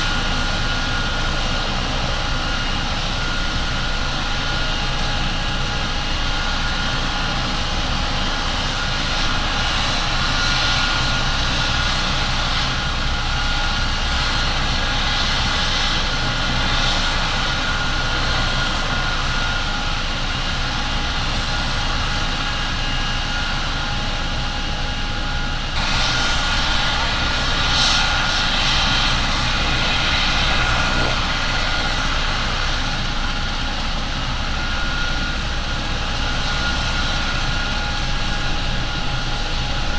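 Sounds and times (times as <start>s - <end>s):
helicopter rotor running: 0.0s - 39.9s
high turbine whine: 0.0s - 39.9s.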